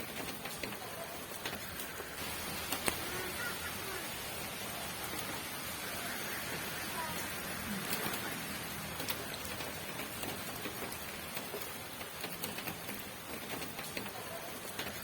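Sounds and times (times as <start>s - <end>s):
rain hissing: 0.0s - 15.0s
raindrops ticking on surface: 0.0s - 15.0s.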